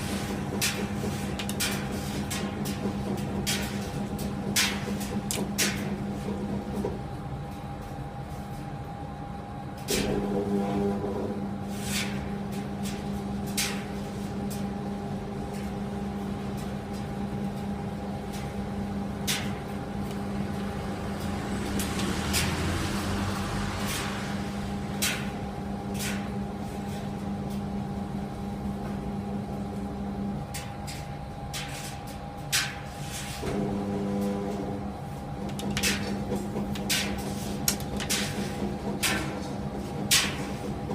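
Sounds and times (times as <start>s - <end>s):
clothes dryer motor hum: 0.0s - 40.9s.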